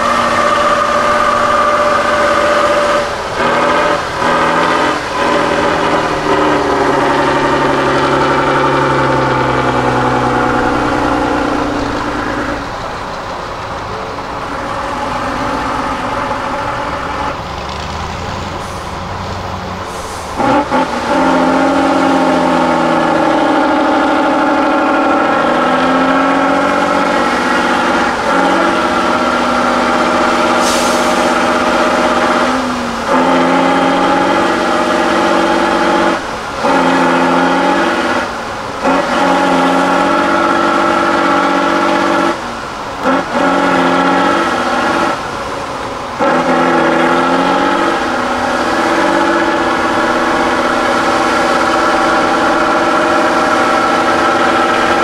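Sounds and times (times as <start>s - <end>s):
truck diesel engine labouring: 0.0s - 55.0s.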